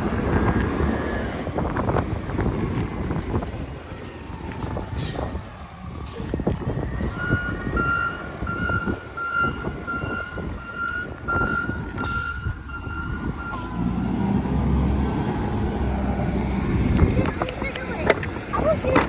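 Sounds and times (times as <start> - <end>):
truck diesel engine rumble: 0.0 - 19.0.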